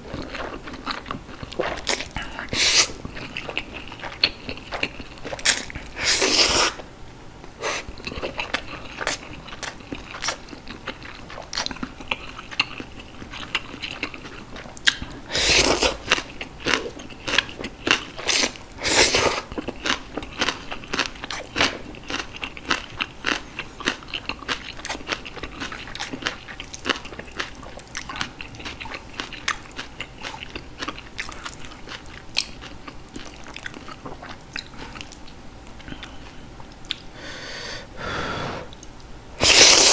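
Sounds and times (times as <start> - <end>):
person chewing crunchy food: 0.0 - 6.8, 7.6 - 37.0, 39.4 - 39.9.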